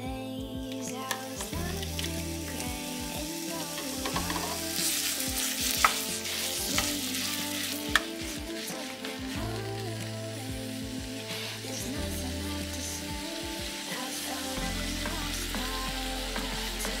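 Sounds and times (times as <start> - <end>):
meat sizzling in oil: 1.1 - 17.0
spatula stirring in pan: 1.1 - 17.0.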